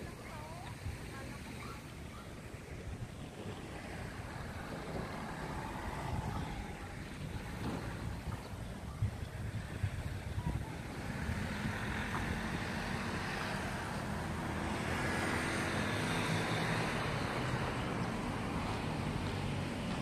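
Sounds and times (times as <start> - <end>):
road traffic passing: 0.0 - 20.0
vehicle engine: 0.0 - 20.0
wind rumbling on microphone: 0.0 - 20.0.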